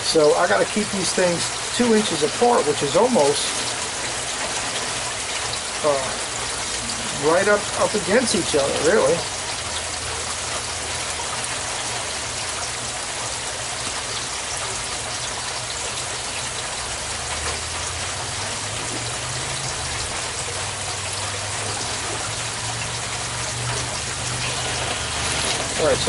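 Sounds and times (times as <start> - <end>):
low pump hum: 0.0 - 26.0
water rushing: 0.0 - 26.0.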